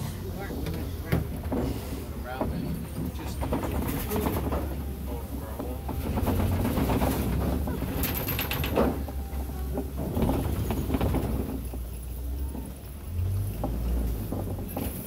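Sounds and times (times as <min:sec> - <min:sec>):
rattling and clattering: 0:00.0 - 0:15.0
truck rumbling: 0:00.0 - 0:15.0.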